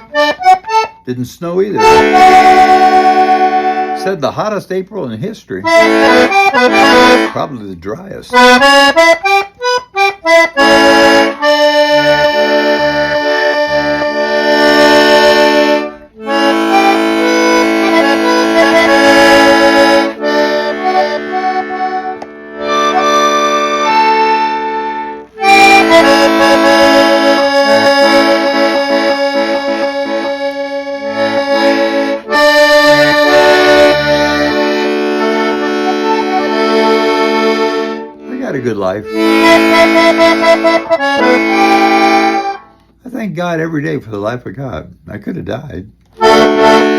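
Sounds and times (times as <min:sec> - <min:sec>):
accordion playing chords: 0:00.0 - 0:43.1, 0:45.9 - 0:46.9.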